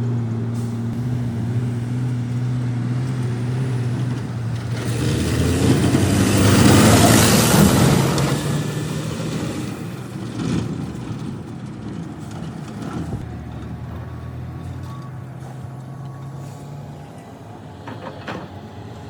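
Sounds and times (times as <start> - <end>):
heavy diesel machinery working: 0.0 - 19.0.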